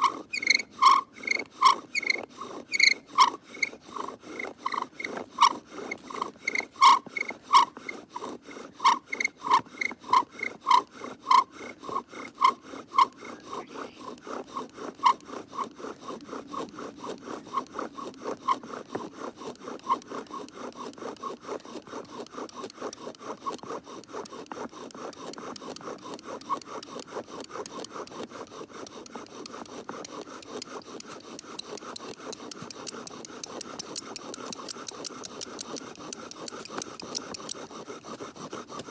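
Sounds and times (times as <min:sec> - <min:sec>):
bow drill spindle rasping on wood: 0:00.0 - 0:38.9.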